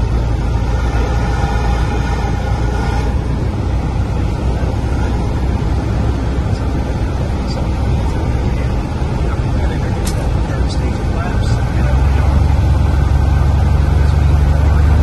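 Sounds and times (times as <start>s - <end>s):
airplane engine and propeller droning: 0.0s - 15.0s.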